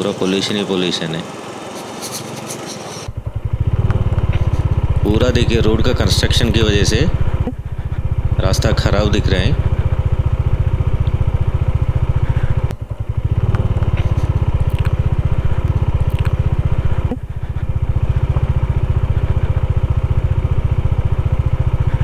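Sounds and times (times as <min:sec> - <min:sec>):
motorcycle engine running: 0:01.3 - 0:22.0.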